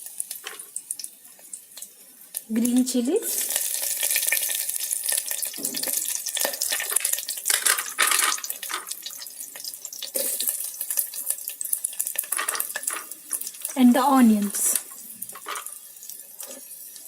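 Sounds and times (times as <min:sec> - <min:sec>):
garlic and chilies sizzling in oil: 0:00.0 - 0:17.0.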